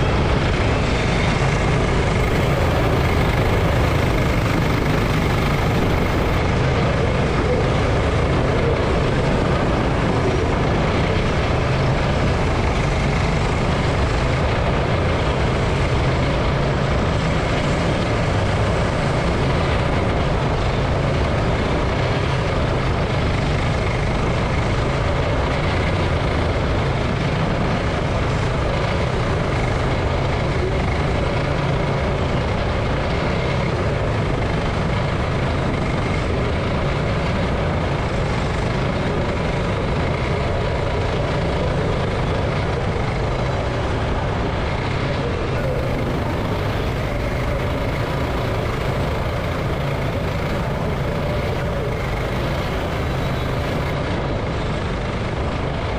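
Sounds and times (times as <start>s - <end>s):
go-kart engine running: 0.0s - 55.9s.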